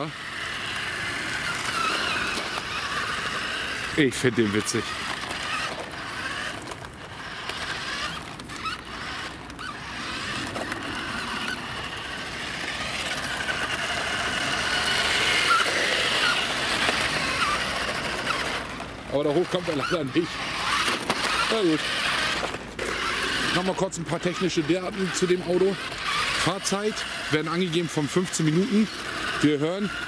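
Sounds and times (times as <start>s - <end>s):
toy car electric motor whining: 0.0s - 30.0s.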